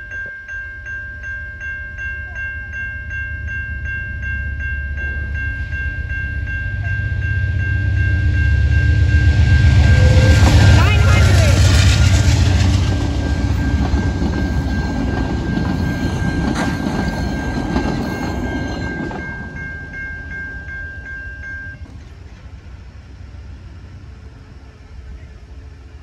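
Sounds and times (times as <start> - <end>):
steady high-pitched tone: 0.0 - 21.8
train rumbling with wheel clacks: 2.2 - 26.0.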